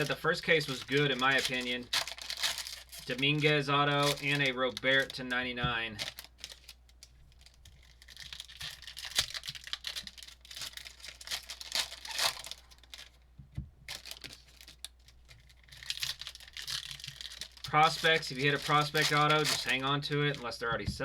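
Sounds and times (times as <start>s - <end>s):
packaging tearing and crinkling: 0.0s - 13.2s, 13.9s - 20.6s.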